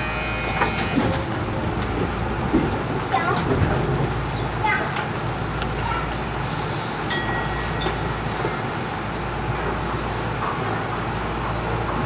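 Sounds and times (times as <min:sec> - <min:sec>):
train cab hum and rumble: 0:00.0 - 0:12.0.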